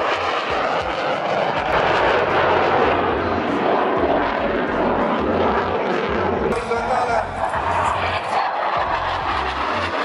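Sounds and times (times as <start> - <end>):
jet flying past roaring: 0.0 - 10.0.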